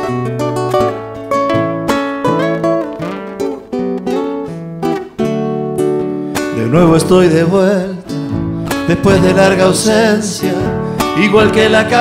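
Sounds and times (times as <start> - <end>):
acoustic guitar picked melody: 0.0 - 12.0.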